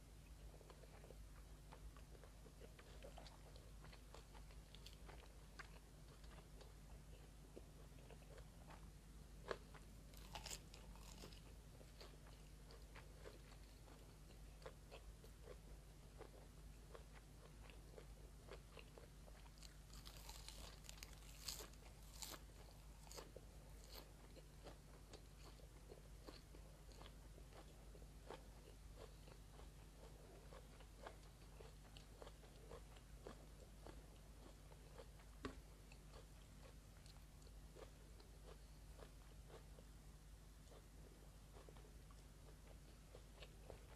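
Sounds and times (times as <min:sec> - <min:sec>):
close chewing and crunching: 0:00.4 - 0:39.9, 0:40.6 - 0:43.9.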